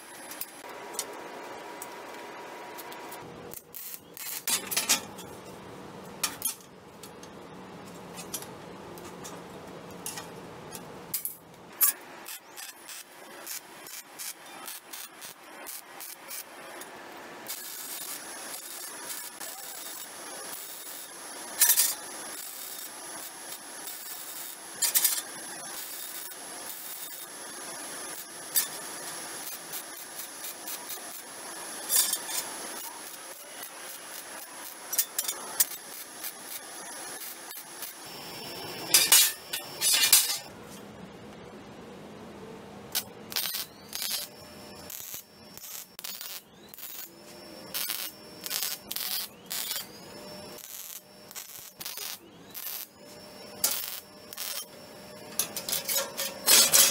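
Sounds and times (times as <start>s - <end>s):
steady noisy hiss: 0.0s - 56.9s.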